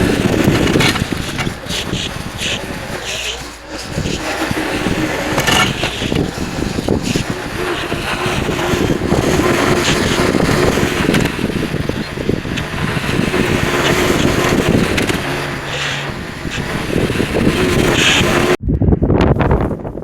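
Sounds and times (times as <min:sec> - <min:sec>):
tractor engine rumbling: 0:00.0 - 0:18.7.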